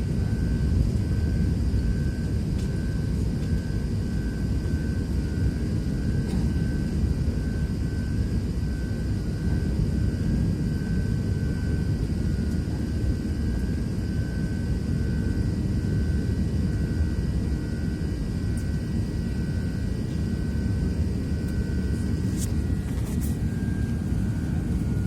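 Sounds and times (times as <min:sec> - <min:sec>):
faint high whine: 0:00.1 - 0:25.0.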